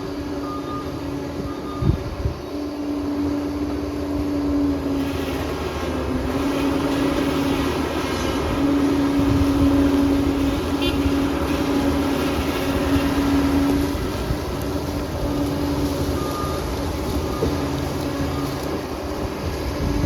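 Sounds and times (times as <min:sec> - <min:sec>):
bulldozer diesel engine rumble: 0:00.0 - 0:20.0
held whine: 0:00.0 - 0:20.0.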